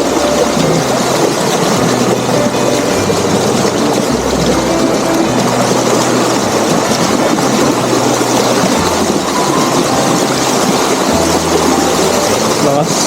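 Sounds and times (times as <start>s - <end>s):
water rushing over a dam: 0.0s - 13.0s.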